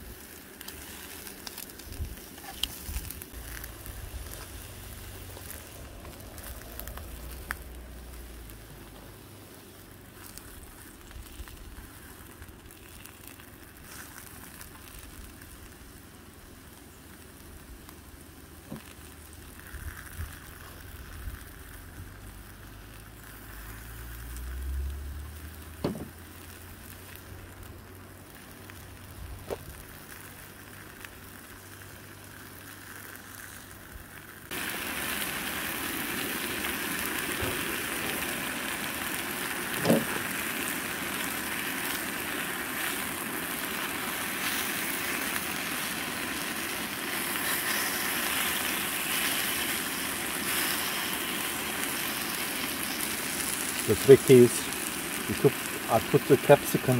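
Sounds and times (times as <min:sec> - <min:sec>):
cooking oil spray hiss: 0:00.0 - 0:56.9
vegetables sizzling in frying pan: 0:00.0 - 0:56.9.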